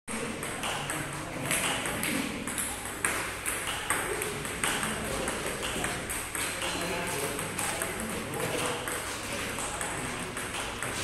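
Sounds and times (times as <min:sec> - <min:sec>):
table tennis balls clicking off paddles: 0:00.2 - 0:11.0
balls bouncing on tabletop: 0:00.4 - 0:11.0.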